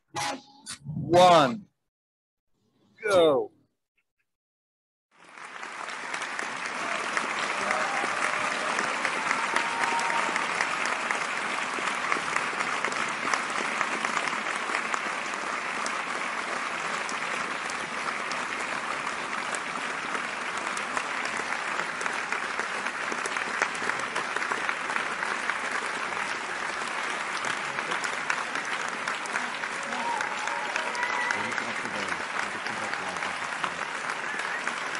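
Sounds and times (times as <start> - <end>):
audience applause: 5.1 - 34.9.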